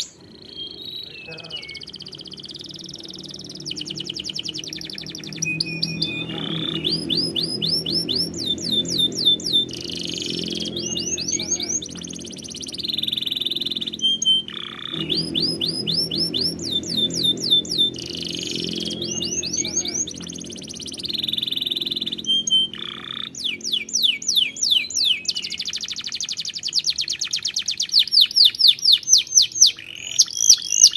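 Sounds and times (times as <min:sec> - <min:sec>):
low steady hum: 0:00.0 - 0:27.9
canary singing trills: 0:00.0 - 0:30.9.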